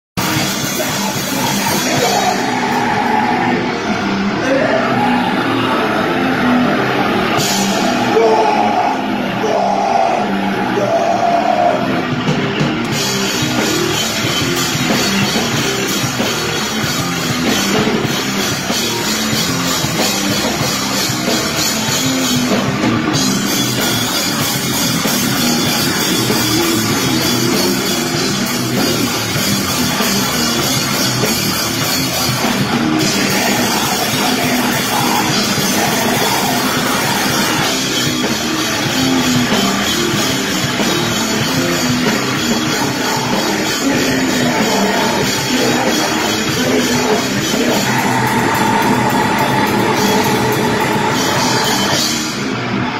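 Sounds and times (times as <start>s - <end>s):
live rock band playing: 0.2s - 52.9s.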